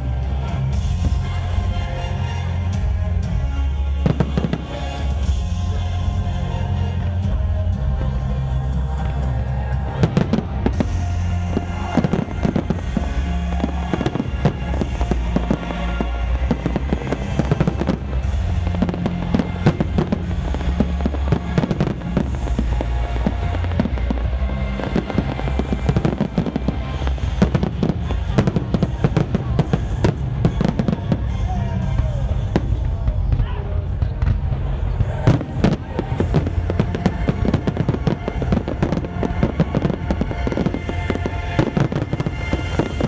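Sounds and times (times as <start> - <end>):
fireworks bangs and crackles: 0.0 - 43.0
music with steady bass line: 0.0 - 43.0.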